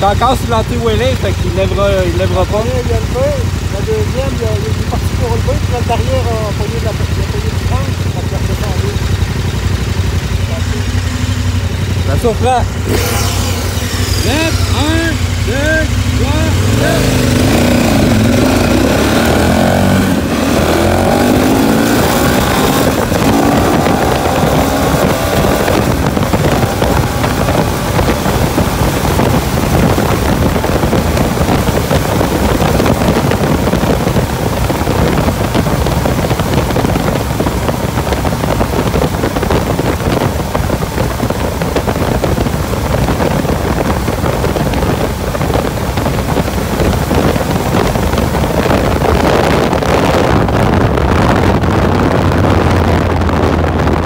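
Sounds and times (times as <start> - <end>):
motorcycle engine pulling hard: 0.0 - 54.0
wind buffeting on microphone: 0.0 - 54.0.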